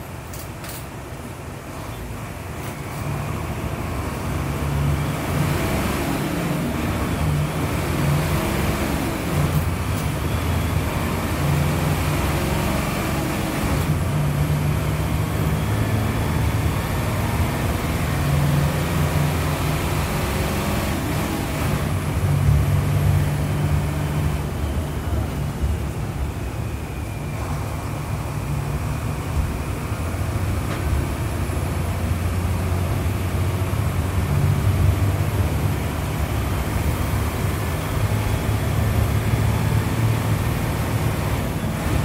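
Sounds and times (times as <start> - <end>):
diesel bus engine running: 0.0 - 42.0
traffic passing: 0.0 - 42.0.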